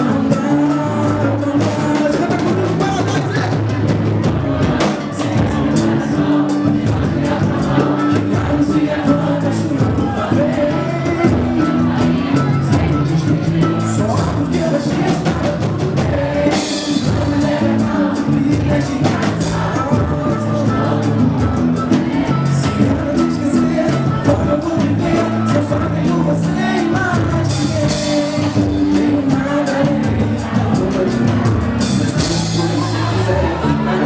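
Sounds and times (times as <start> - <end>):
person singing: 0.0 - 34.0
samba band playing: 0.0 - 34.0.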